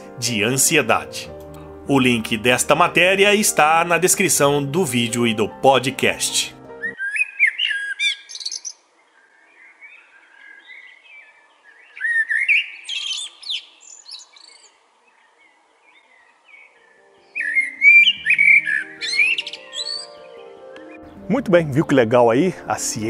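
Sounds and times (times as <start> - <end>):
blackbird singing: 1.9 - 23.0.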